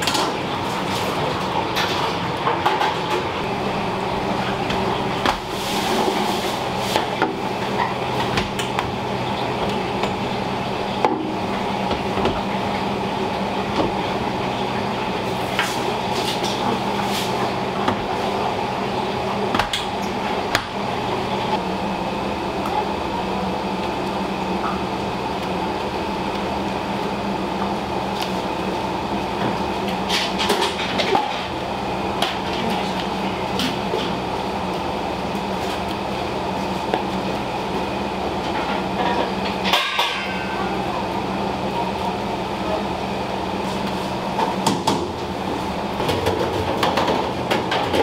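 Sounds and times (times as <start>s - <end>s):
kitchen machinery humming: 0.0s - 48.0s.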